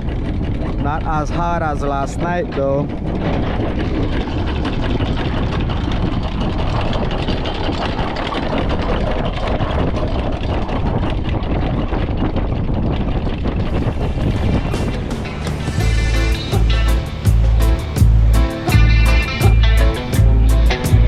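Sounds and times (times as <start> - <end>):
boat engine running: 0.0 - 21.0
wind on microphone: 0.0 - 21.0.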